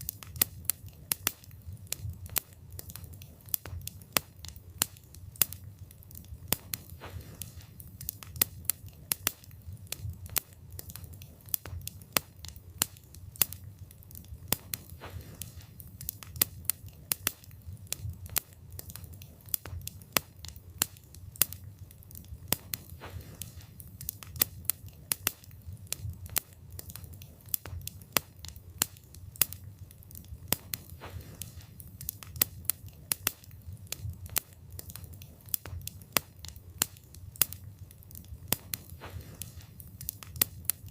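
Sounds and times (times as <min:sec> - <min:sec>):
low steady rumble: 0:00.0 - 0:40.9
wood fire crackling and popping: 0:00.0 - 0:40.9.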